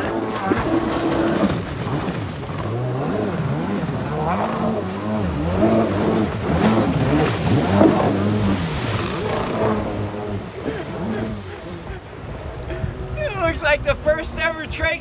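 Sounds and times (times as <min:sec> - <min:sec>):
jet ski engine revving: 0:00.0 - 0:15.0.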